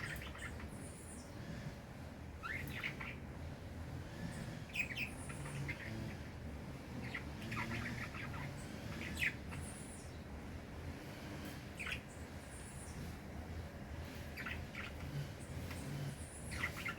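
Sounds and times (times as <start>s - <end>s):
songbirds chirping: 0.0s - 16.9s.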